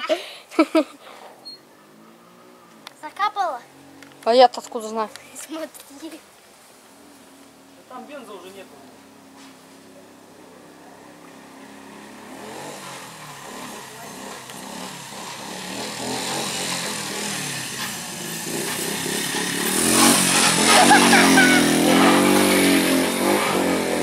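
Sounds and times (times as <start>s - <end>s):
motorcycle engine passing: 1.6s - 5.3s, 6.9s - 24.0s.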